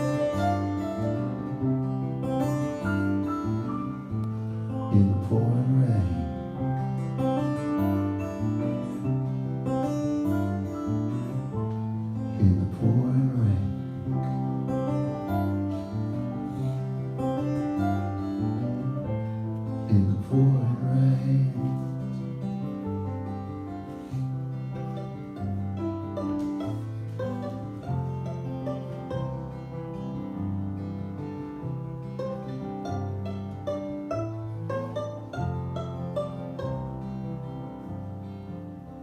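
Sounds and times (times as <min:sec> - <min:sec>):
instrumental guitar music: 0:00.0 - 0:39.0.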